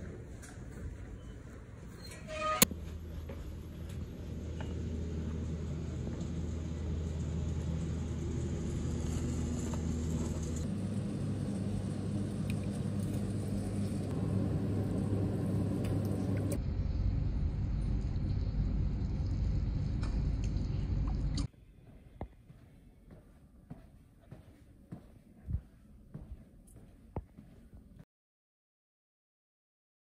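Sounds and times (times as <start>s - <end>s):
room noise rumble and hum: 0.0s - 28.0s.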